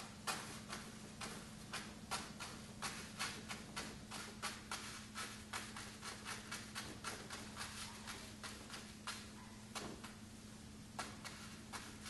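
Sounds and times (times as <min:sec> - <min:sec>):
brush stroking on paper: 0:00.0 - 0:10.1.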